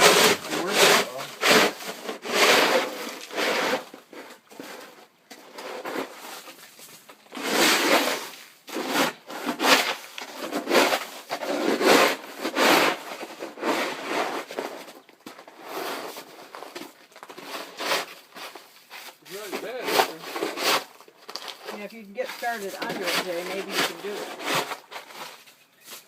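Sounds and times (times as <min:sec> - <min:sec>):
snow shovel scraping icy snow: 0:00.0 - 0:05.0, 0:05.6 - 0:14.9, 0:17.3 - 0:21.0, 0:21.6 - 0:26.0.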